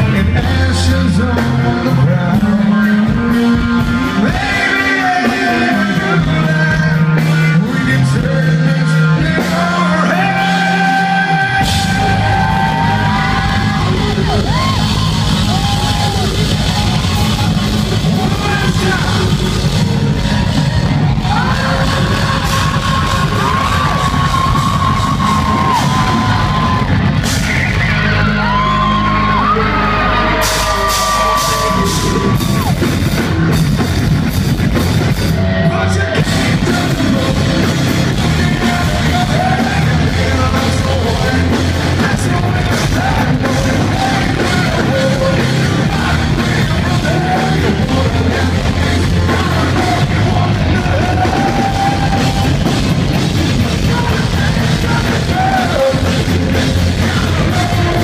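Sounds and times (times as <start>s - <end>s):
person singing: 0.0s - 33.3s, 35.3s - 58.0s
hard rock band playing live: 0.0s - 58.0s.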